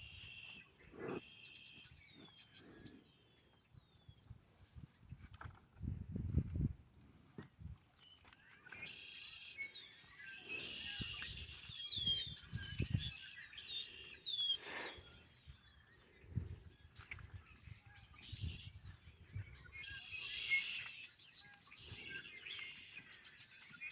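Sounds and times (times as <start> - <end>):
songbirds singing: 0.0 - 5.6, 6.2 - 23.9.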